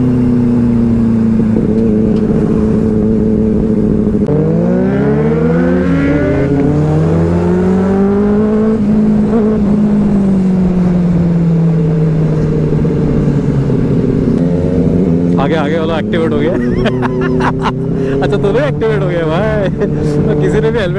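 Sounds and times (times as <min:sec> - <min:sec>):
motorcycle accelerating: 0:00.0 - 0:20.9.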